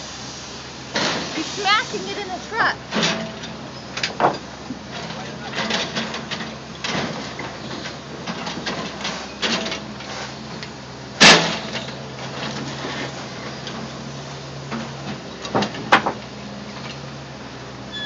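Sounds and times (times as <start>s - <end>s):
diesel engine hum: 0.0s - 18.0s.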